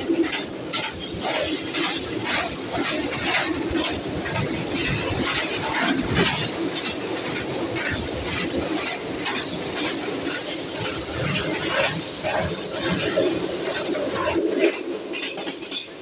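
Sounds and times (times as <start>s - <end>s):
clattering knocks of train wheels: 0.0s - 16.0s
train rumbling on rails: 0.0s - 16.0s.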